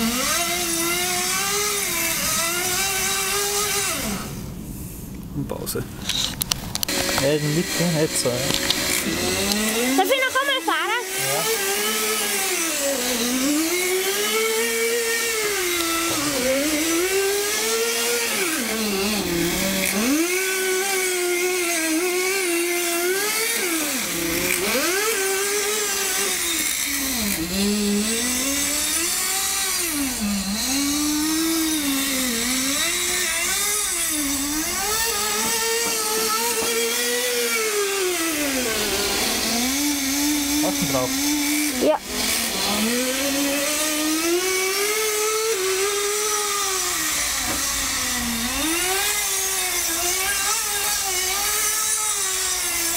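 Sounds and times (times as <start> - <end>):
model car engine whining: 0.0 - 5.2, 6.0 - 52.9.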